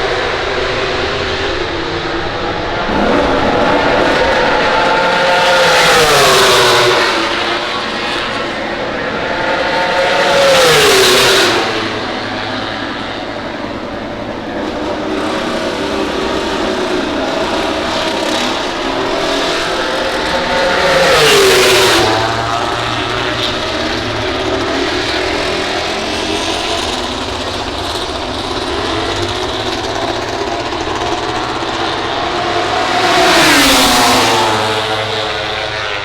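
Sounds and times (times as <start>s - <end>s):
race bikes passing by: 0.0s - 36.0s.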